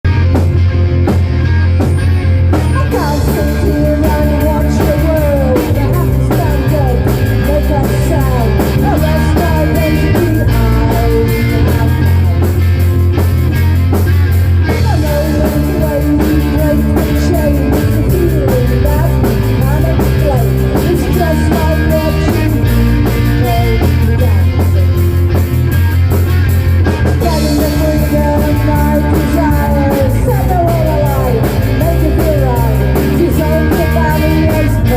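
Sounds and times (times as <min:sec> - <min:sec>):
rock song with vocals: 0:00.0 - 0:34.9.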